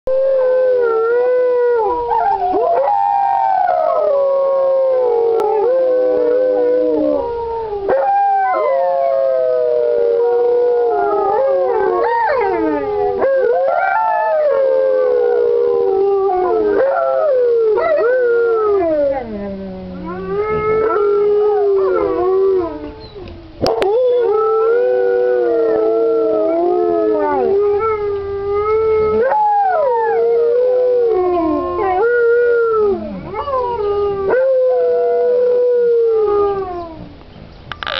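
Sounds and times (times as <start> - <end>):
dogs howling in chorus: 0.1 - 37.1.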